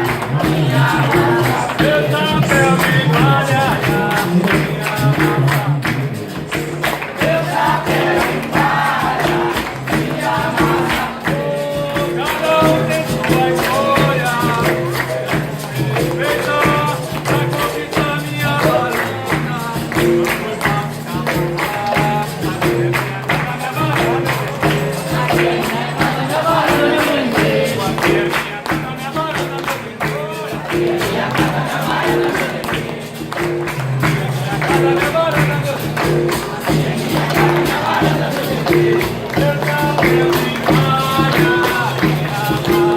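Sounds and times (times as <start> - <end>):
people singing: 0.0 - 42.9
tambourine rhythm: 0.0 - 42.9.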